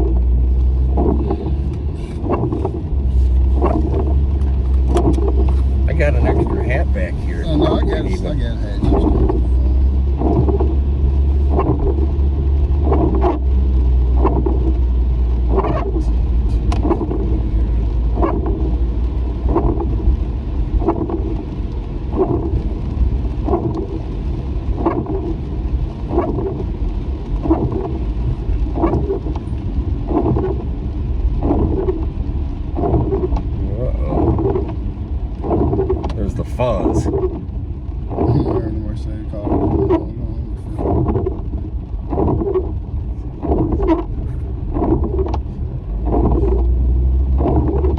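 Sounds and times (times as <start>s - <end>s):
car cabin road rumble: 0.0s - 47.9s
windshield wipers sweeping: 0.0s - 47.9s.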